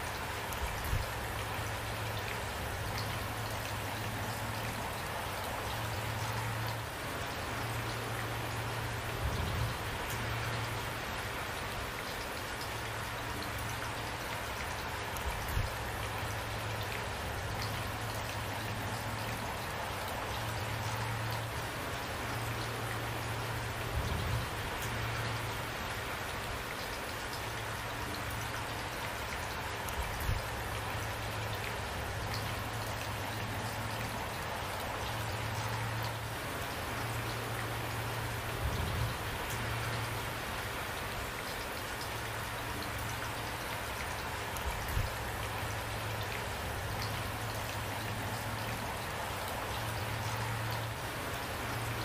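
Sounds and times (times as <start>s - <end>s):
heavy rain patter: 0.0s - 52.0s.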